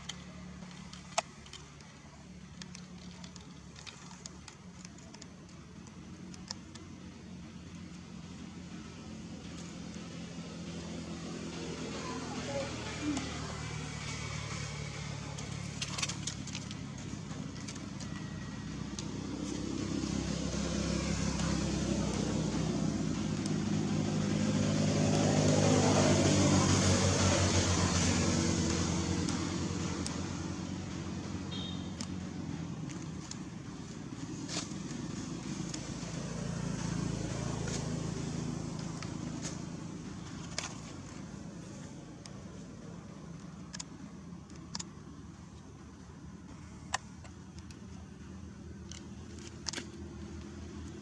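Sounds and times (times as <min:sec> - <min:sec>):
low engine hum: 0:00.0 - 0:51.0.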